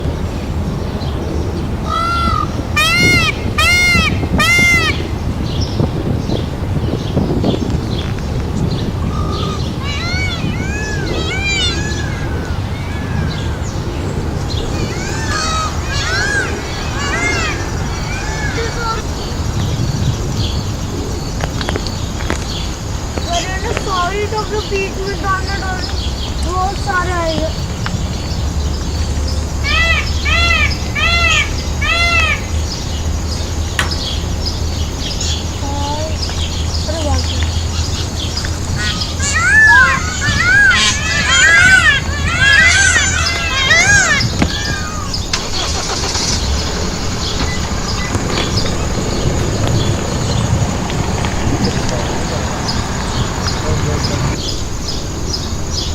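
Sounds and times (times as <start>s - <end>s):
birds calling: 0.0s - 55.9s
steady low rumble: 0.0s - 55.9s.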